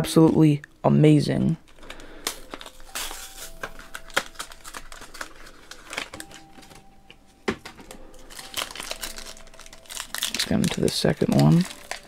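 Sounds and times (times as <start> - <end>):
foil wrappers crinkling: 1.6 - 6.9, 7.5 - 12.0.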